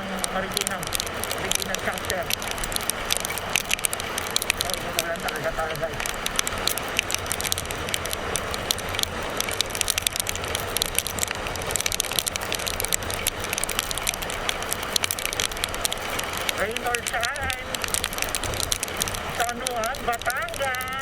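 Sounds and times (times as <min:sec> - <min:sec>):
motorcycle engine and road rumble: 0:00.0 - 0:21.0
sharp crackling ticks: 0:00.0 - 0:21.0.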